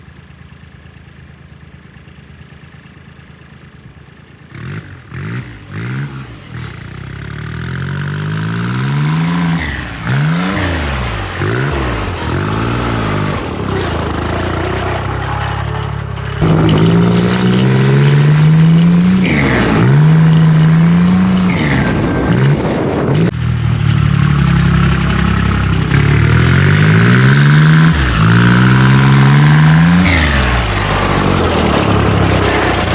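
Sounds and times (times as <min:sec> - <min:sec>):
tractor engine revving: 0:04.5 - 0:32.9.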